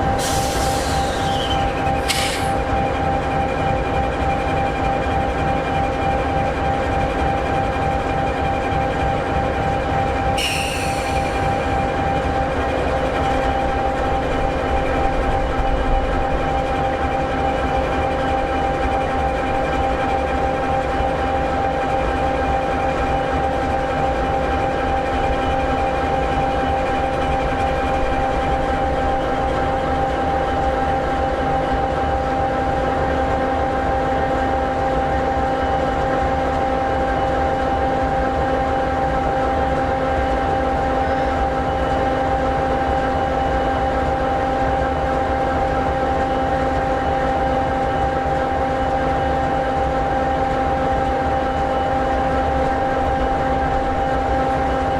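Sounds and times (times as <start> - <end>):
diesel locomotive idling: 0.0 - 54.9.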